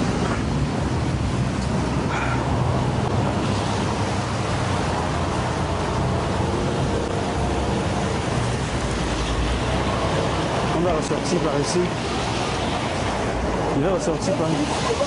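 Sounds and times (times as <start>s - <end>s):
outdoor rushing noise: 0.0s - 15.0s.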